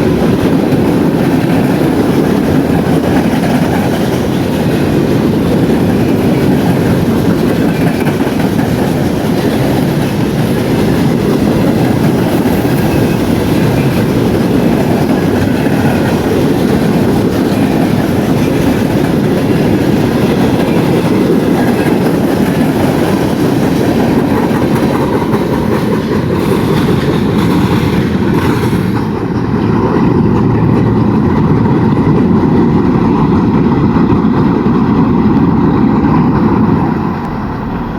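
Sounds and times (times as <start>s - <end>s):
freight train rumbling past: 0.0s - 37.9s
wheels clacking over rail joints: 0.0s - 37.9s.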